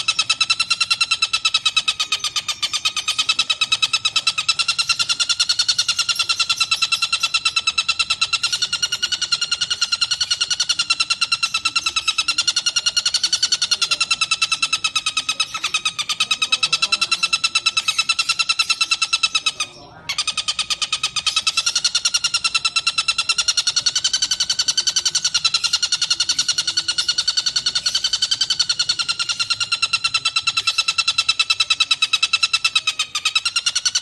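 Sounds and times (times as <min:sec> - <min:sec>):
kingfisher rattling call: 0:00.0 - 0:34.0.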